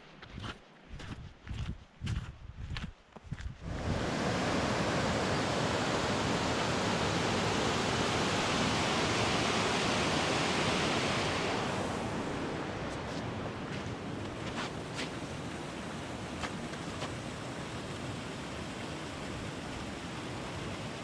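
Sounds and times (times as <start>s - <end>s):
rush of flowing water: 3.6s - 21.0s.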